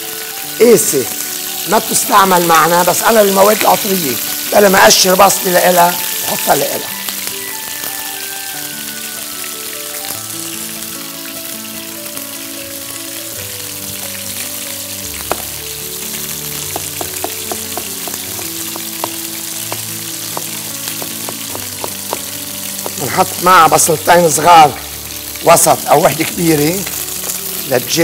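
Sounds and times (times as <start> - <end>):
food sizzling in a pot: 0.0 - 28.0.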